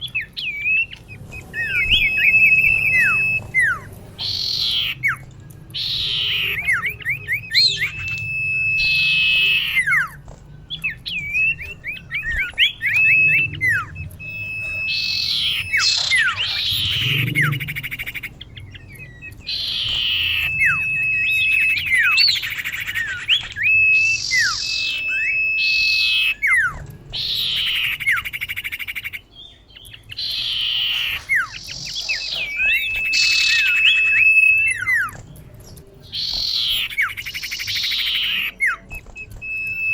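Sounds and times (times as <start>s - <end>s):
bird calling with chirps and whistle: 0.0s - 39.9s.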